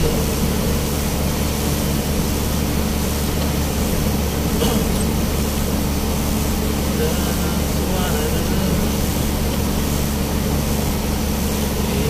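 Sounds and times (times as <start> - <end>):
truck engine hum: 0.0 - 12.0
tyres hissing on wet road: 0.0 - 12.0.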